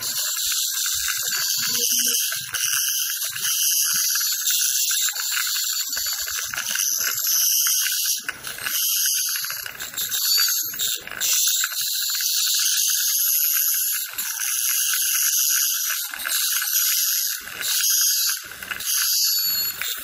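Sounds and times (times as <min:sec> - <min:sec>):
dental handpiece high-pitched whine: 0:00.0 - 0:20.0.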